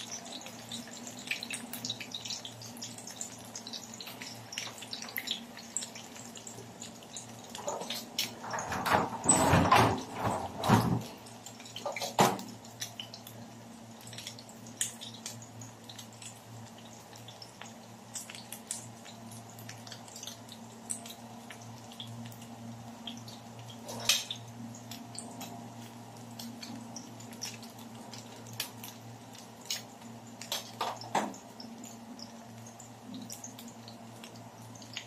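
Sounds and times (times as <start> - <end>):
fritters sizzling in hot oil: 0.0 - 35.0.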